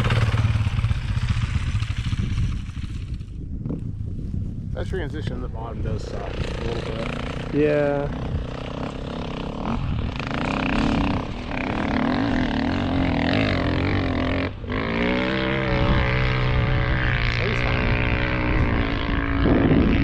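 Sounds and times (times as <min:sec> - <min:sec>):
dirt bike engine revving: 0:00.0 - 0:03.3, 0:05.8 - 0:20.0.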